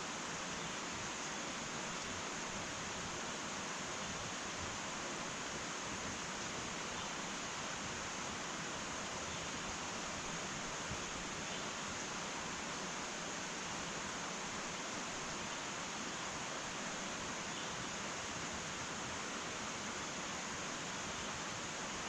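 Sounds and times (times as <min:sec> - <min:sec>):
wood fire hissing: 0:00.0 - 0:22.0.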